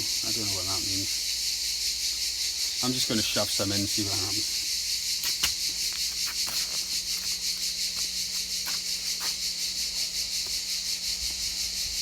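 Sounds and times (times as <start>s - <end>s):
insects pulsing buzz: 0.0s - 12.0s.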